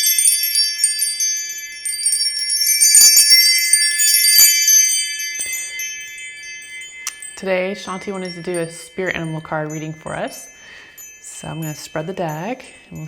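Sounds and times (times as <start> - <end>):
chime bar ringing steady high tone: 0.0 - 13.0
high tinkling chime notes: 0.0 - 13.0.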